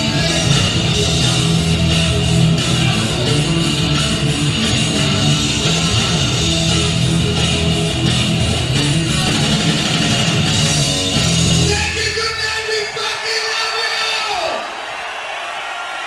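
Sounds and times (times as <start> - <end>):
distorted electric guitar: 0.0 - 12.9
heavy metal band playing live: 0.0 - 13.2.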